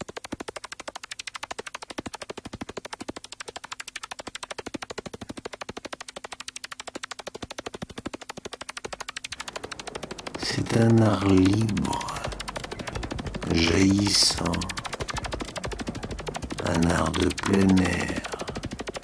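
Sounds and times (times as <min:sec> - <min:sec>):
rapid electronic clicks: 0:00.0 - 0:19.0
faint steady hum: 0:02.3 - 0:19.0.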